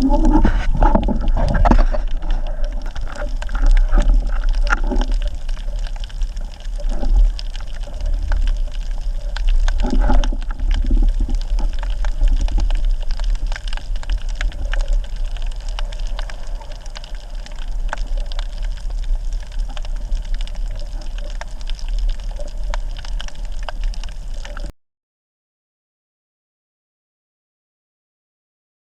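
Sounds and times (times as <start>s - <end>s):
underwater crackling and clicking: 0.0s - 24.7s
underwater sea rumble: 0.0s - 24.7s.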